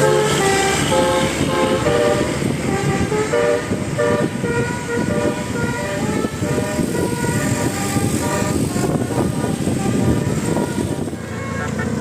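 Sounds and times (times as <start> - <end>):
musical air horn tune: 0.0 - 12.0.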